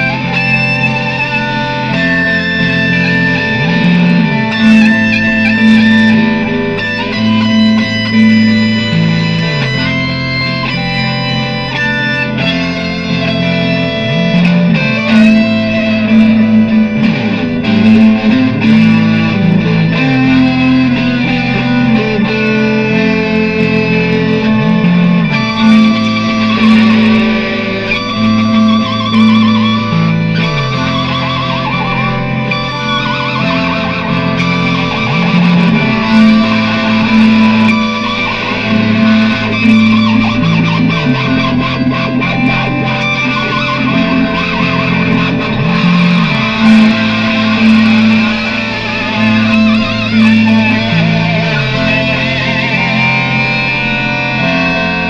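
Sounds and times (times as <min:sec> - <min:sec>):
electric guitar with effects: 0:00.0 - 0:55.0.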